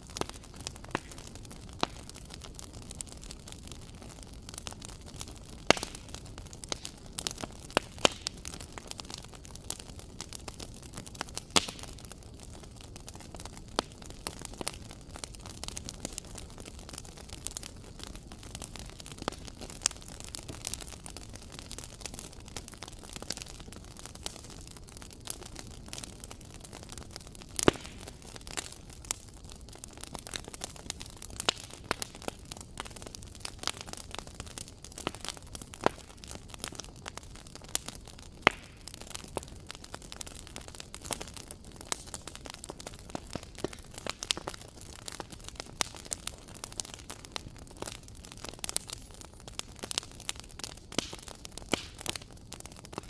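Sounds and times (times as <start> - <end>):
fire popping and snapping: 0.0 - 53.0
wood fire crackling: 0.0 - 53.0.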